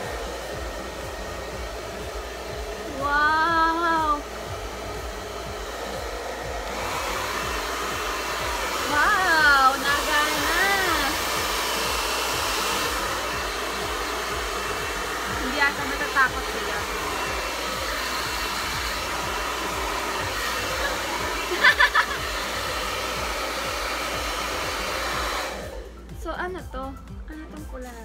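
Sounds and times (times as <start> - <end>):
hair dryer running: 0.0 - 27.9.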